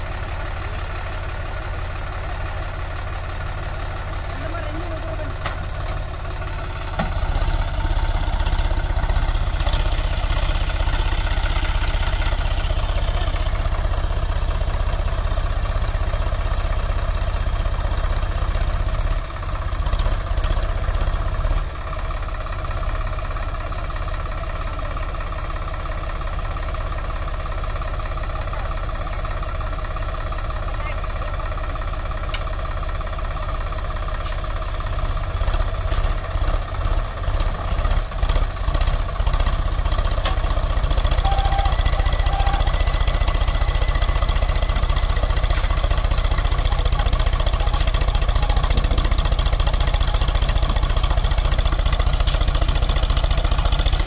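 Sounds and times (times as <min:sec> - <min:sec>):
tractor diesel engine straining: 0:00.0 - 0:54.0.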